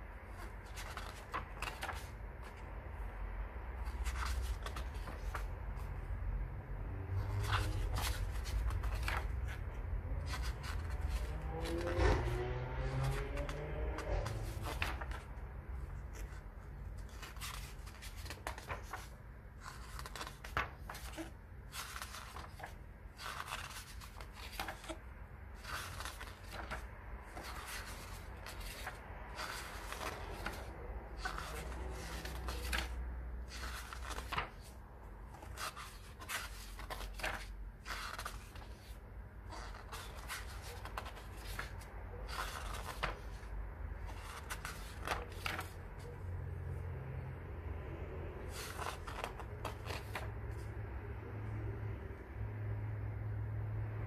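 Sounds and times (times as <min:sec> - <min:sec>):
pages being flipped: 0:00.6 - 0:02.6, 0:03.8 - 0:05.9, 0:07.1 - 0:25.0, 0:25.6 - 0:46.1, 0:48.4 - 0:50.7.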